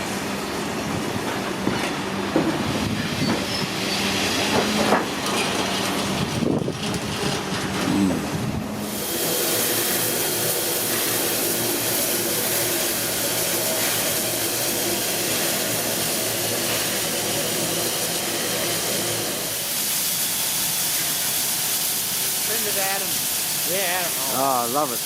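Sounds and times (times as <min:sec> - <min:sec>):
locomotive steam hissing: 0:00.0 - 0:25.0.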